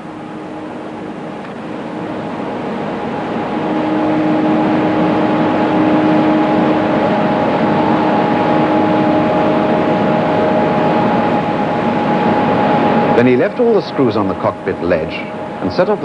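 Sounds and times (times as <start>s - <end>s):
machine noise with constant whine: 0.0s - 16.0s.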